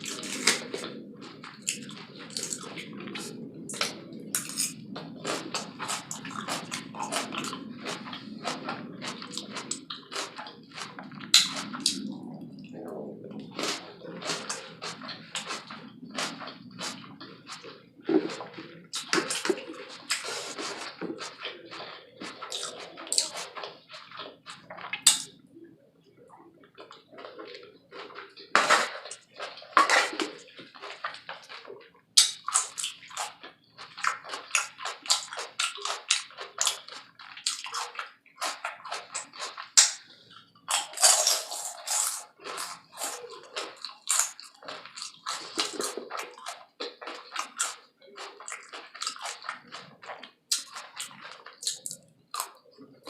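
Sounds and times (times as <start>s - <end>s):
chewing with wet mouth smacks: 0.0s - 53.0s.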